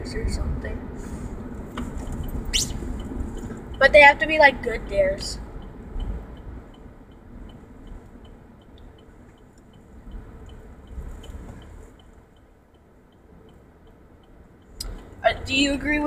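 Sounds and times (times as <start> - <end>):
road and engine rumble: 0.0 - 16.0
faint even ticking: 1.6 - 15.5.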